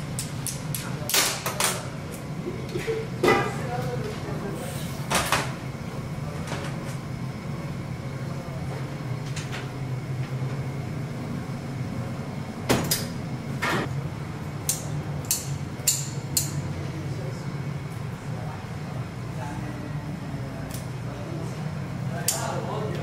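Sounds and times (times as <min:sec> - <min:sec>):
kitchen equipment hum: 0:00.0 - 0:23.0.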